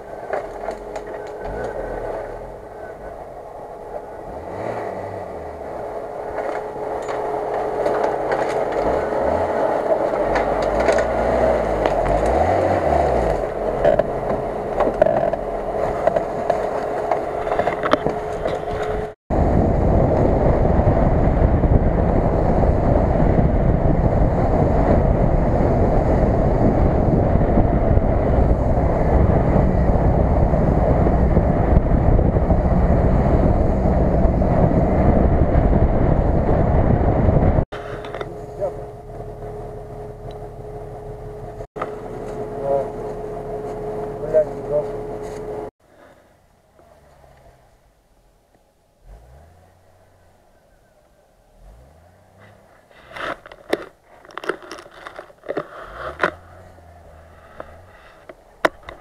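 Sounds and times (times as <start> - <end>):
engine revving: 0.0 - 46.1, 49.0 - 50.4, 51.4 - 59.0
steady whine: 0.0 - 48.6
vehicle driving noise: 0.0 - 59.0.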